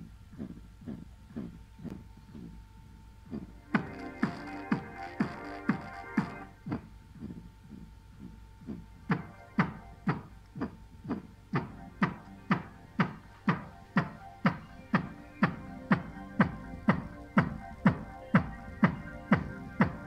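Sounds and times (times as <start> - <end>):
electronic music with kick drum: 0.9 - 20.0.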